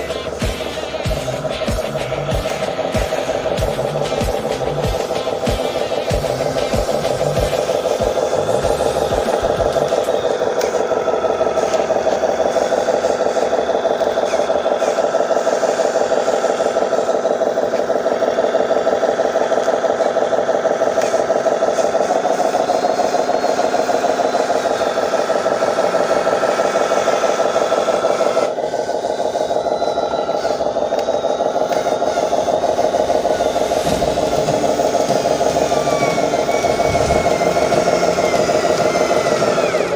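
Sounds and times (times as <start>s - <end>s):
remote-control truck motor running: 0.0s - 39.9s.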